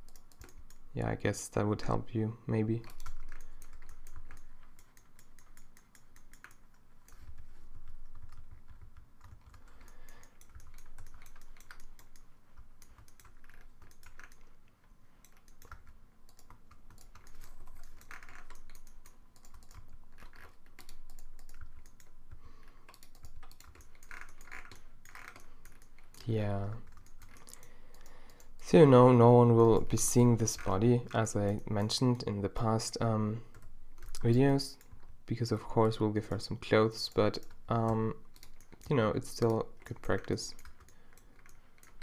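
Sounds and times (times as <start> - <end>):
keyboard and mouse clicking: 0.0 - 0.9, 2.8 - 28.6, 32.6 - 35.2, 37.0 - 42.0.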